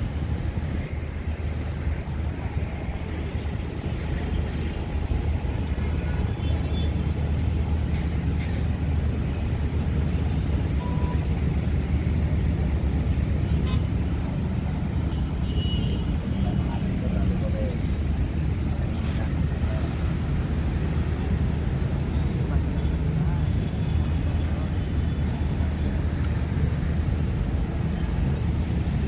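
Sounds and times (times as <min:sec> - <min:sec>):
city road traffic rumble: 0:00.0 - 0:29.0.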